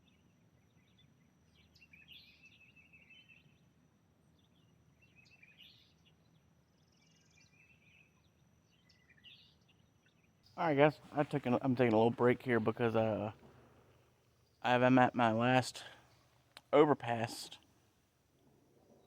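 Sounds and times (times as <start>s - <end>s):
faint bird chirps and song: 0.0s - 17.6s.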